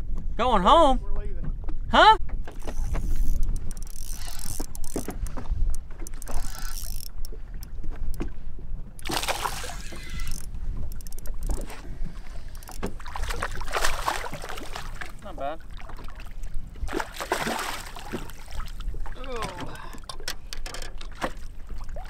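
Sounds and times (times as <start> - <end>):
wind buffeting microphone: 0.0 - 20.1
water lapping against hull: 1.2 - 22.0.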